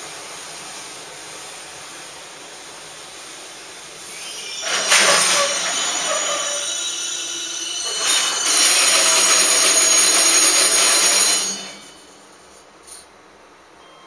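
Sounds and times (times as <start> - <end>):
train brakes squealing and hissing: 0.0 - 13.1.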